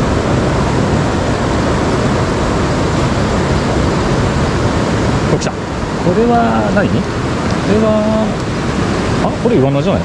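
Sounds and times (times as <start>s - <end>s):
river current rushing: 0.0s - 10.0s.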